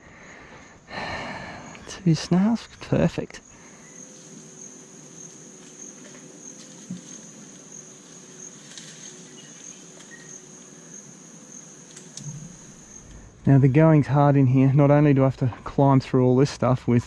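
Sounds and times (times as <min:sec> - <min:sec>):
high-pitched insect trill: 0:00.0 - 0:15.4
faint ambient hiss: 0:00.0 - 0:17.0.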